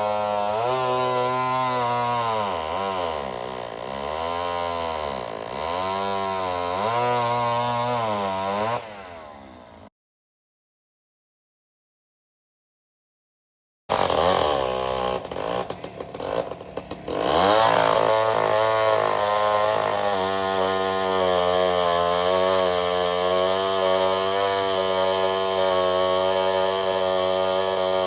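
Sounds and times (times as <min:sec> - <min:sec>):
chainsaw engine running: 0:00.0 - 0:09.9, 0:13.9 - 0:28.0.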